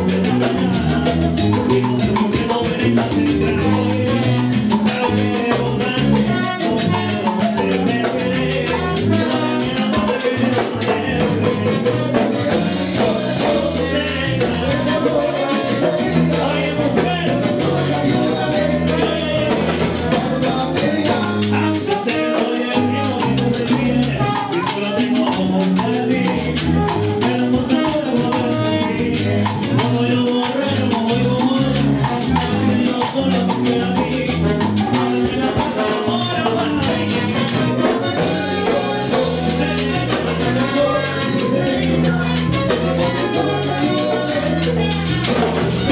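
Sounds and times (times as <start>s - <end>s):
bass line: 0.0s - 45.9s
drums and percussion: 0.0s - 45.9s
salsa band playing: 0.0s - 45.9s.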